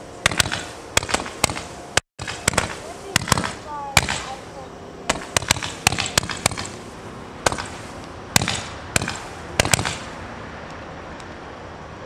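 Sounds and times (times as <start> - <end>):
firework reports with echoes: 0.2 - 10.2.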